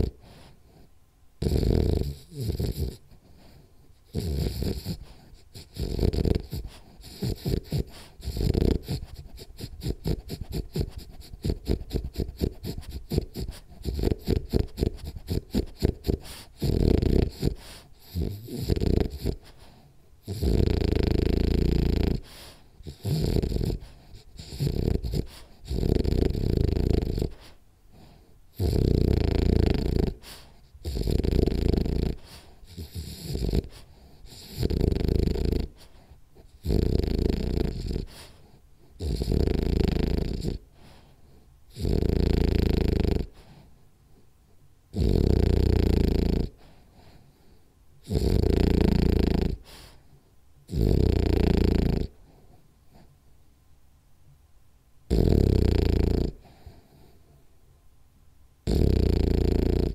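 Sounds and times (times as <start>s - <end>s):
dog snoring: 0.0s - 43.7s, 44.9s - 53.1s, 55.1s - 57.4s, 58.6s - 59.9s.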